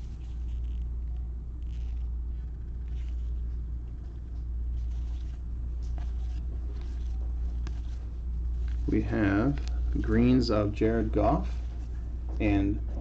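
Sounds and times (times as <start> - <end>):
trading cards rustling: 0.0 - 12.1.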